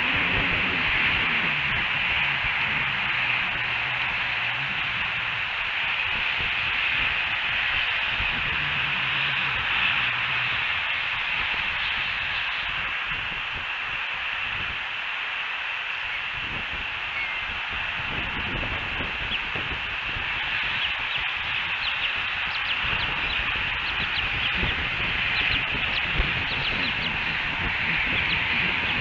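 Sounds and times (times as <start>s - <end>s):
outdoor ambience hiss: 0.0s - 29.0s.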